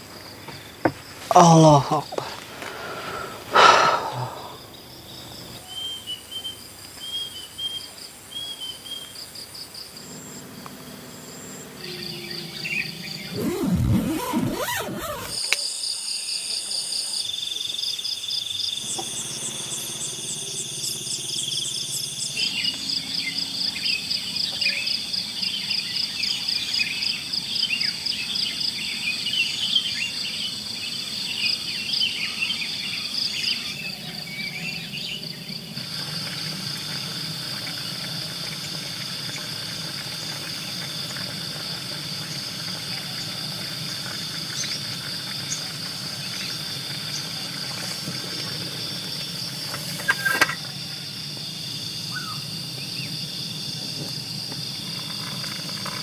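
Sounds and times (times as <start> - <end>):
insects chirping chorus: 0.0 - 56.0.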